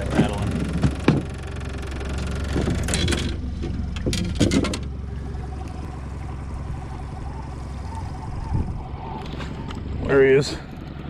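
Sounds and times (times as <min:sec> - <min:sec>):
boat motor humming: 0:00.0 - 0:11.0
gear clattering in boat: 0:00.0 - 0:11.0.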